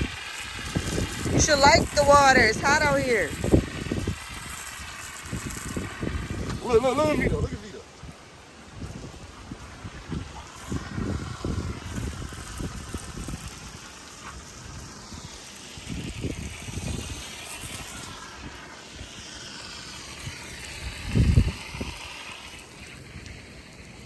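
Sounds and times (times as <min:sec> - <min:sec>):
wind buffeting microphone: 0:00.0 - 0:19.3, 0:20.1 - 0:23.3
garden hose spraying water: 0:00.0 - 0:24.0.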